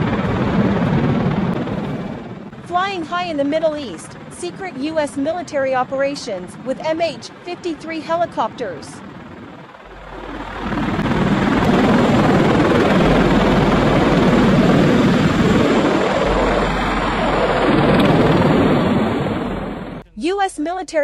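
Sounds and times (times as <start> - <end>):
helicopter rotor and engine: 0.0 - 20.1.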